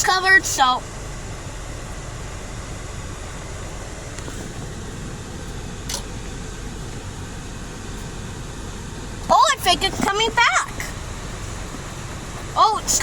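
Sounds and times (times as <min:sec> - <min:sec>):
car wash machinery rushing hum: 0:00.0 - 0:13.0.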